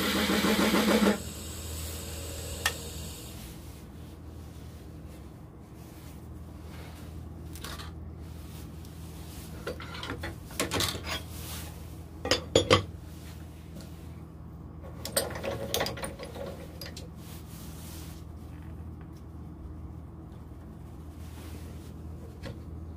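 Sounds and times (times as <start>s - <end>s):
steady low hum: 0.0s - 15.3s, 16.2s - 22.9s.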